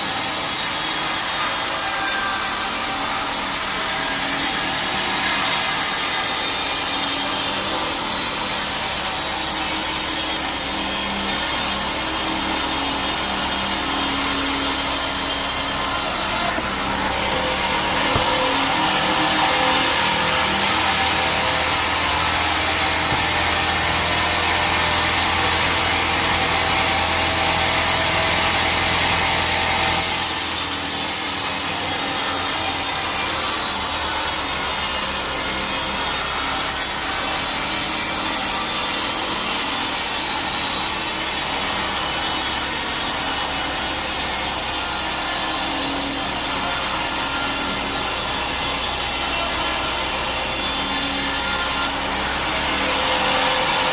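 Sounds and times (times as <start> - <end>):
bandsaw rasping through wood: 0.0 - 53.9.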